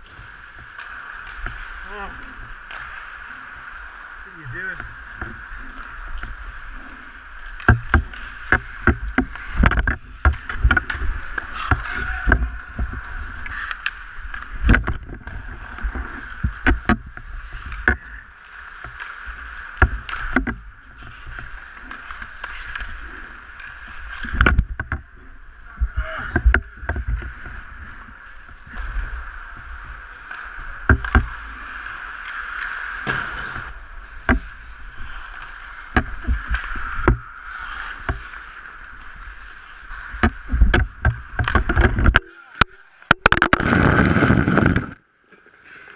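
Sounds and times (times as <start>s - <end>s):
skate blades scraping ice: 0.0s - 45.9s
sticks and puck clacking: 0.0s - 45.9s.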